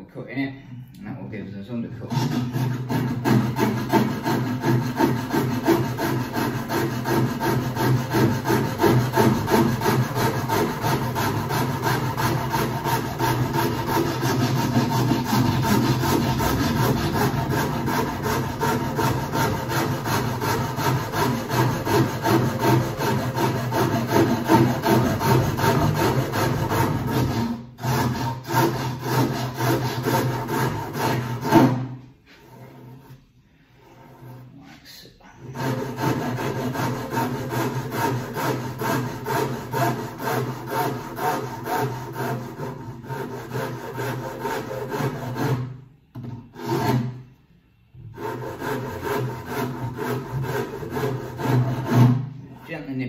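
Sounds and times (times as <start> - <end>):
hand rasp filing wood: 2.0 - 33.2, 35.4 - 47.2, 48.1 - 52.8.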